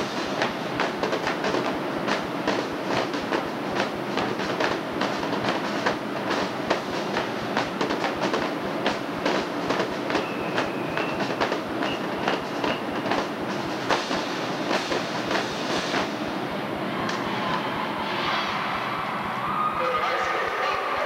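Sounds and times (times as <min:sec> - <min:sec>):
marching drum line cadence: 0:00.0 - 0:18.2.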